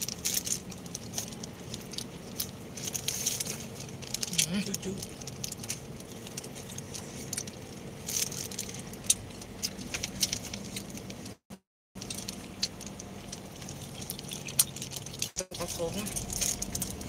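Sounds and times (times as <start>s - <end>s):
sharp clicks and crackles: 0.0s - 17.0s.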